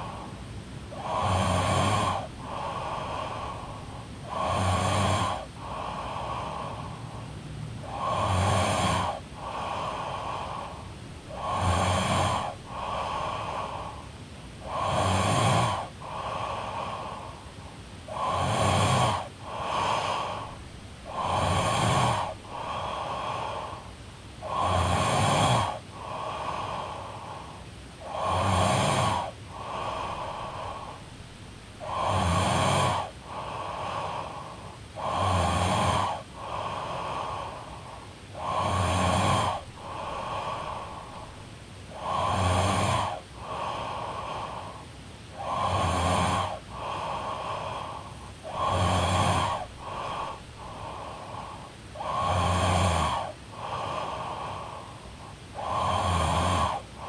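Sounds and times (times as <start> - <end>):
woman snoring: 0.0 - 0.3, 0.9 - 31.1, 31.8 - 57.0.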